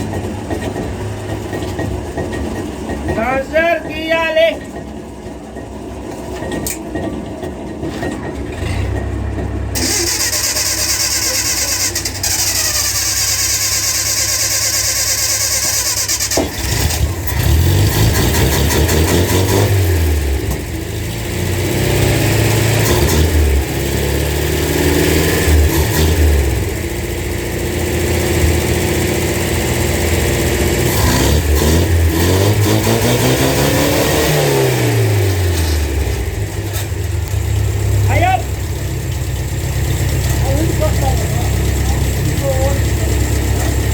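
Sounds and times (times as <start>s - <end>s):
vehicle engine revving: 8.0s - 43.9s.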